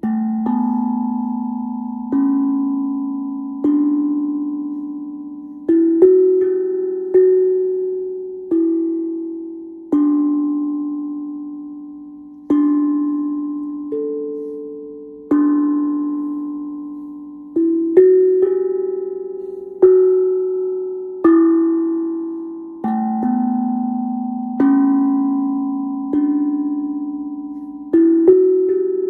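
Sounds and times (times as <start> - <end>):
steel tongue drum melody: 0.0 - 29.0.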